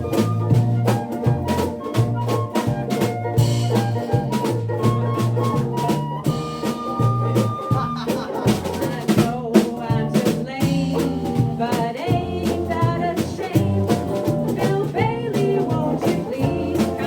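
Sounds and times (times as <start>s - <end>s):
acoustic swing band playing: 0.0s - 17.0s.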